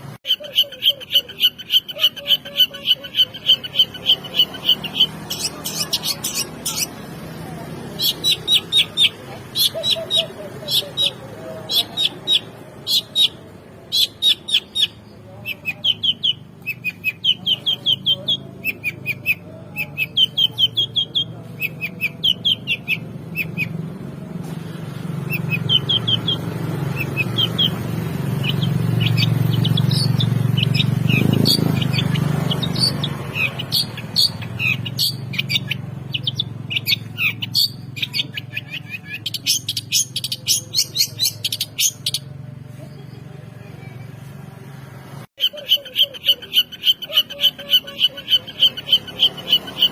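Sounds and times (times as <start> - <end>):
bird chattering song: 0.0 - 44.4, 45.3 - 49.9.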